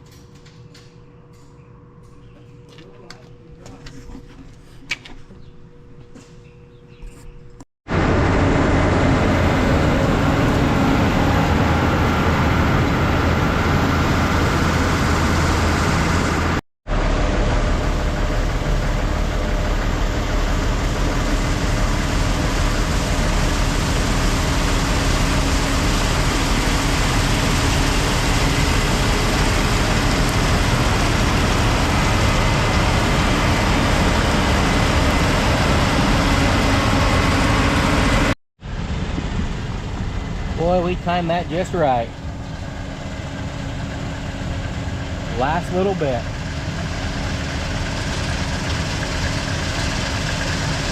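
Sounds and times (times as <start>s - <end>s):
farm machinery engine drone: 7.9s - 50.9s.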